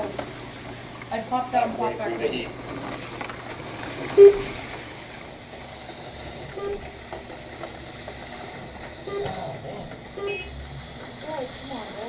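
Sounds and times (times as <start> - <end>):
slot cars rattling on plastic track: 0.0 - 12.0.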